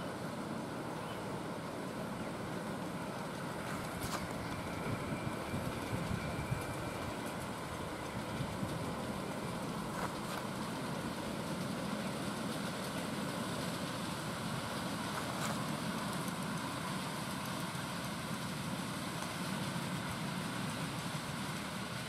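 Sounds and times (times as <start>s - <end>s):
model steam train running: 0.0s - 22.0s.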